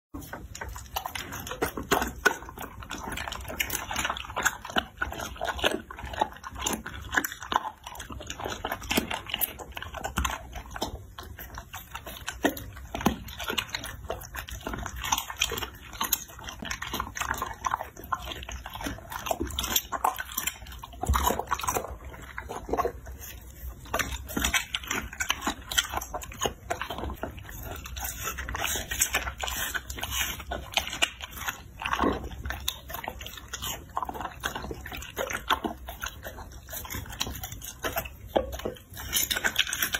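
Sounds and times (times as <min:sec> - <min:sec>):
dog chewing raw meat: 0:00.1 - 0:39.9.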